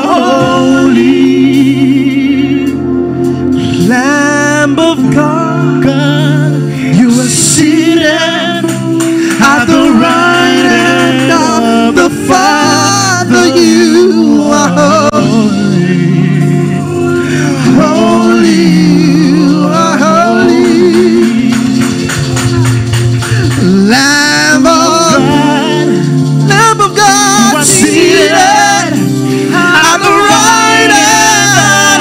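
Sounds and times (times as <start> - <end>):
man singing into microphone: 0.0 - 3.0, 3.6 - 22.0, 23.5 - 32.0
instrumental backing: 0.0 - 32.0.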